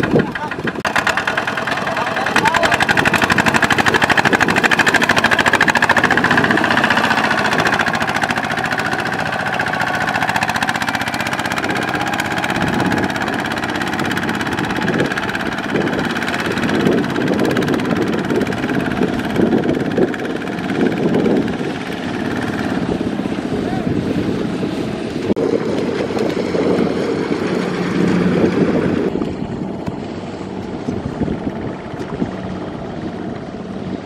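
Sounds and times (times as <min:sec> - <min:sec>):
diesel tractor engine running: 0:00.0 - 0:34.0.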